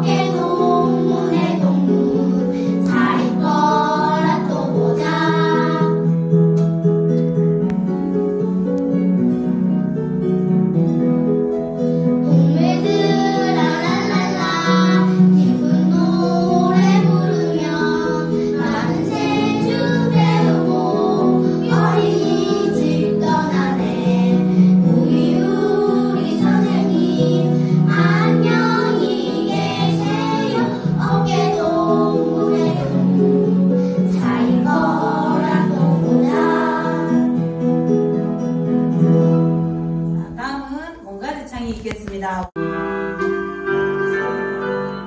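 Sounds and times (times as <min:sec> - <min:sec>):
acoustic guitar chords: 0:00.0 - 0:40.4.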